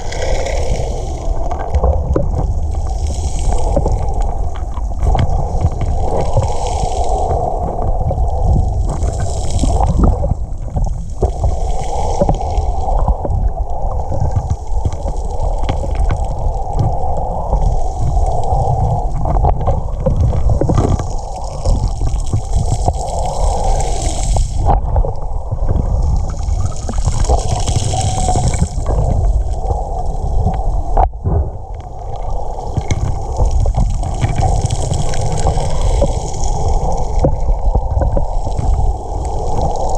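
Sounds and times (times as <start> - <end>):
low rumble: 0.0 - 39.9
water sloshing underwater: 0.0 - 39.9.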